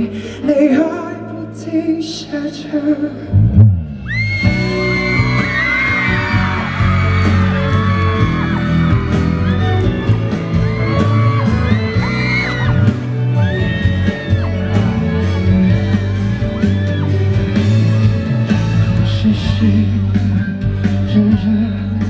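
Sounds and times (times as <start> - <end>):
live pop band playing: 0.0 - 22.0
fans screaming: 4.0 - 22.0.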